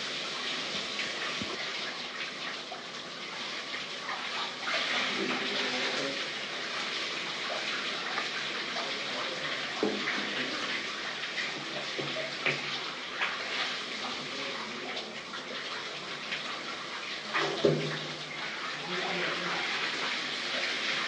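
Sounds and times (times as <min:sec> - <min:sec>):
shower water running and splashing: 0:00.0 - 0:21.0.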